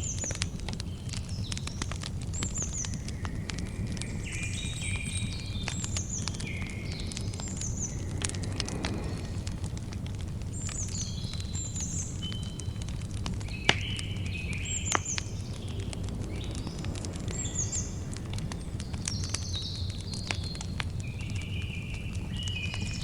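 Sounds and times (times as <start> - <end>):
birds chirping: 0.0 - 9.8, 10.4 - 23.0
campfire crackling: 0.0 - 23.0
low steady rumble: 1.8 - 21.1.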